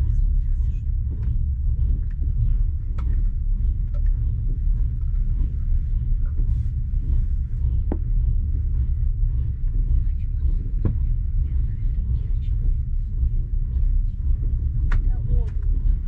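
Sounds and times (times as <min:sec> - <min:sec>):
train carriage rumbling: 0:00.0 - 0:16.0.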